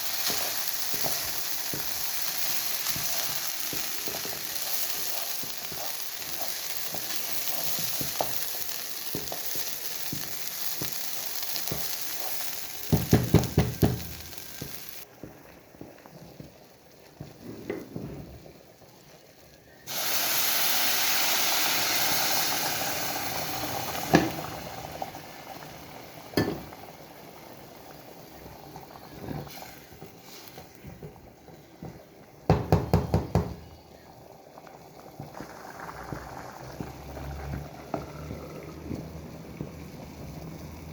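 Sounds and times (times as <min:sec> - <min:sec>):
food sizzling in a frying pan: 0:00.0 - 0:40.9.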